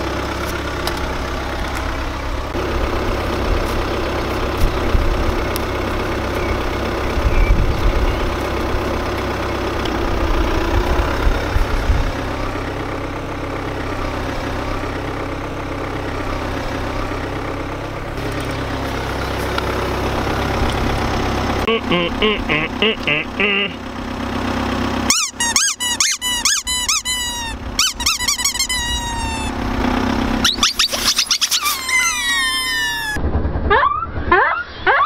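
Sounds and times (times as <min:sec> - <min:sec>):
car engine idling: 0:00.0 - 0:33.2.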